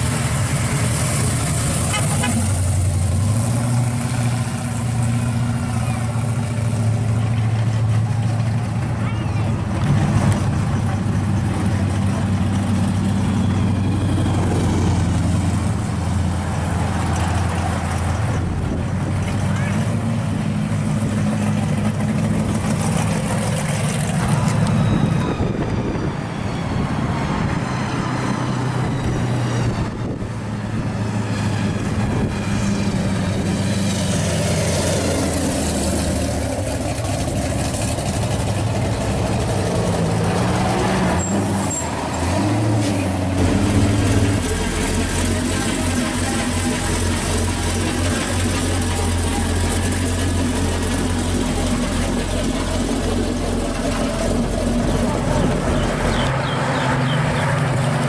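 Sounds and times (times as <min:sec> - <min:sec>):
engines rumbling and revving: 0:00.0 - 0:58.0.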